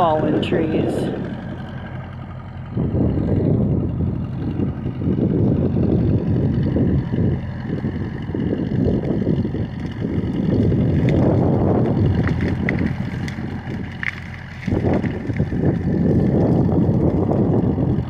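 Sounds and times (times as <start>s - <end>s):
bulldozer diesel engine running: 0.0s - 18.0s
heavy rumbling: 0.0s - 18.0s.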